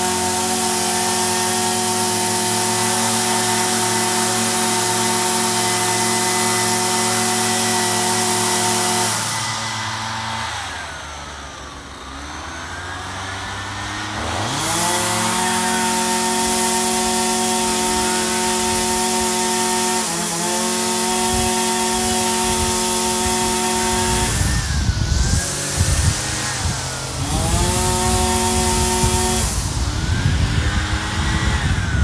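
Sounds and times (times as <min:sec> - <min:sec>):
small two-stroke engine revving: 0:00.0 - 0:32.0.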